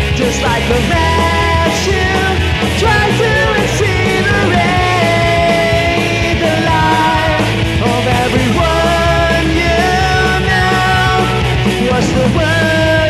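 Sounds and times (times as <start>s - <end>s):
man singing loudly: 0.0s - 13.0s
rock band backing track: 0.0s - 13.0s.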